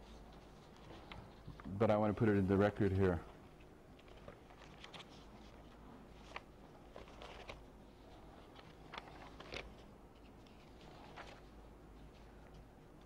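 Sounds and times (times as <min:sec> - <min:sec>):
paper rustling and crackling: 0:00.0 - 0:02.3, 0:03.6 - 0:12.6
low room hum: 0:00.0 - 0:13.0.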